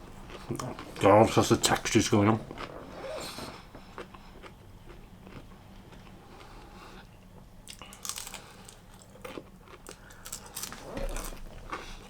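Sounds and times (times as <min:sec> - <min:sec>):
person chewing crunchy food: 0:00.0 - 0:01.1, 0:02.4 - 0:12.0.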